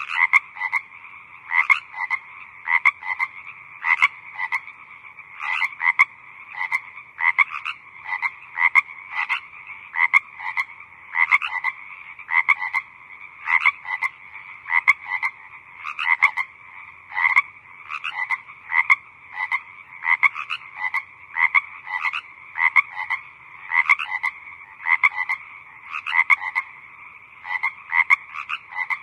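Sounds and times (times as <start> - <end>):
frogs croaking in chorus: 0.0 - 29.0.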